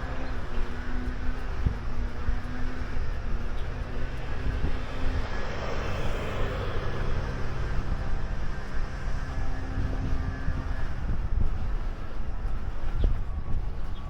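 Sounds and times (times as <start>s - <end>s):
low outdoor rumble: 0.0s - 14.0s
vehicle passing by: 0.0s - 14.0s.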